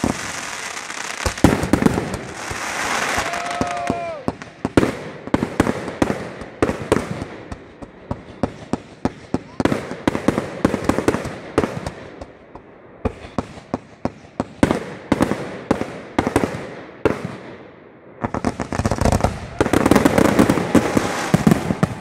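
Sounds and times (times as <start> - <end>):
fireworks bangs with crackle: 0.0 - 22.0.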